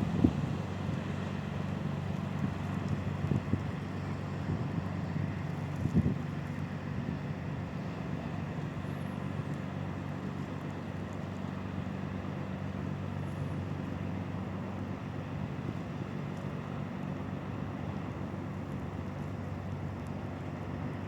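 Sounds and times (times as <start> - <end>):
ship engine droning: 0.0 - 21.0
water noise: 0.0 - 21.0.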